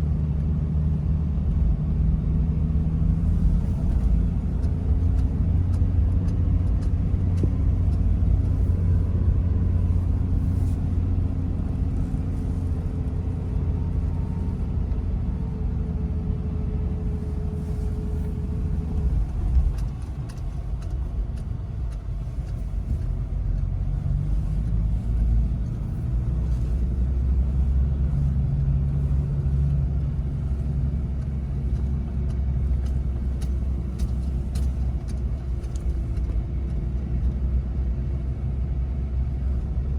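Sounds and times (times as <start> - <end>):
vehicle engine and road drone: 0.0 - 39.9.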